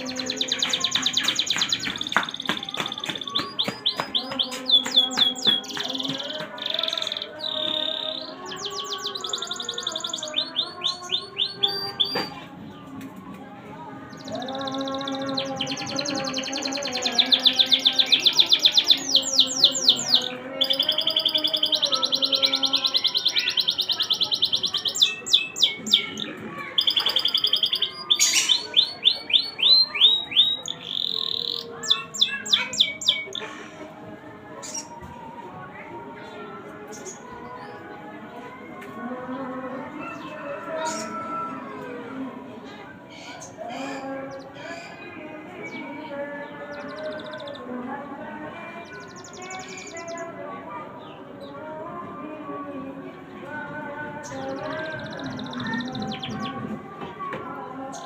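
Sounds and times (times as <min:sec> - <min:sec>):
canary singing: 0:00.0 - 0:13.0, 0:13.7 - 0:35.1, 0:35.7 - 0:42.4, 0:43.0 - 0:58.0.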